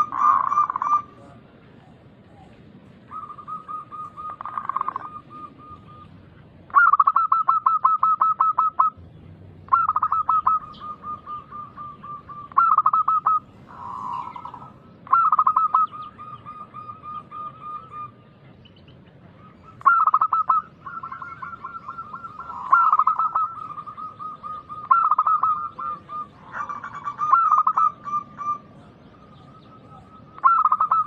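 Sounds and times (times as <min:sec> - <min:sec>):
dove cooing: 0:00.0 - 0:09.0, 0:09.7 - 0:18.4, 0:19.2 - 0:31.0.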